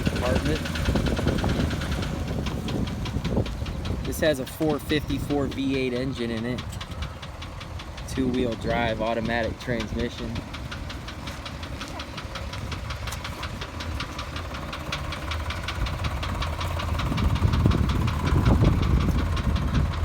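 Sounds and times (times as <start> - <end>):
engine idling with rhythmic knock: 0.0 - 20.0.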